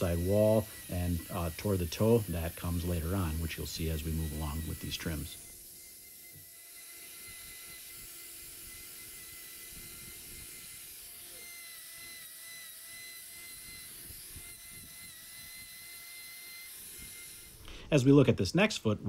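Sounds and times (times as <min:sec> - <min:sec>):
angle grinder whining against hoof: 0:00.0 - 0:17.9.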